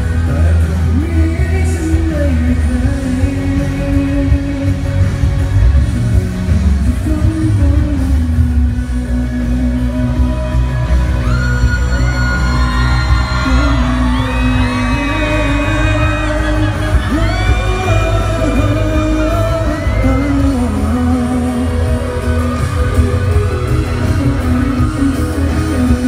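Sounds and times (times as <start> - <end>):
live pop band with heavy bass: 0.0 - 26.0.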